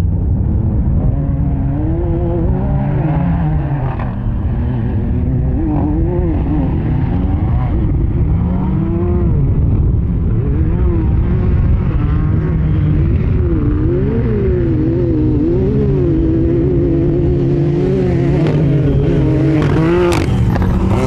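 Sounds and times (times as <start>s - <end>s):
heavy low rumble: 0.0s - 17.4s
buggy engines revving: 0.0s - 21.0s.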